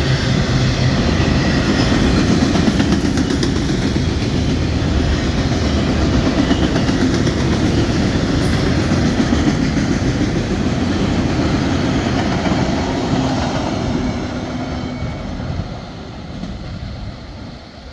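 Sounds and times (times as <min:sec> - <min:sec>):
freight train rolling past: 0:00.0 - 0:17.9.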